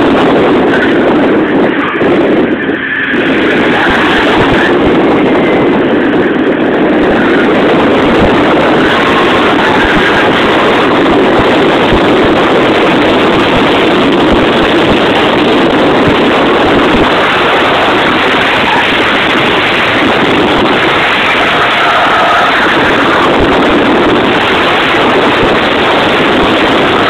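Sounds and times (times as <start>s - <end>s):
rotary engine running hard: 0.0s - 27.0s
wind noise: 0.0s - 27.0s.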